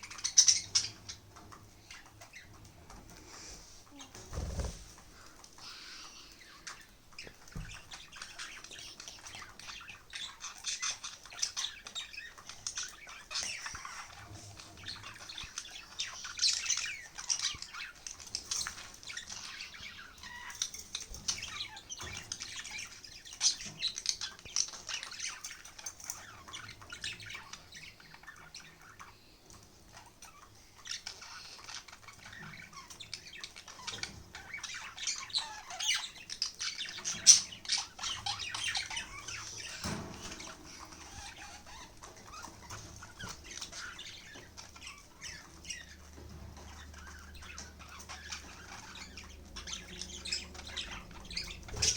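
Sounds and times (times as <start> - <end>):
budgerigars chirping and squawking: 0.0 - 51.9.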